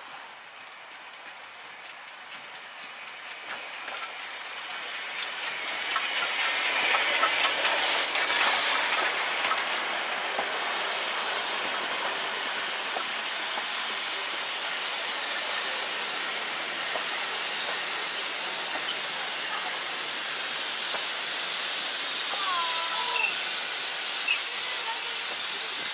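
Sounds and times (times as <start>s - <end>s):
train wheels on rails: 0.0s - 25.9s
steam hissing: 1.0s - 25.9s.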